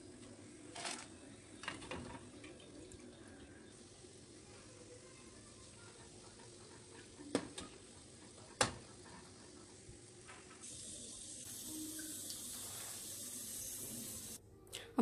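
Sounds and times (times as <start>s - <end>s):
food frying in oil: 0.1s - 14.4s.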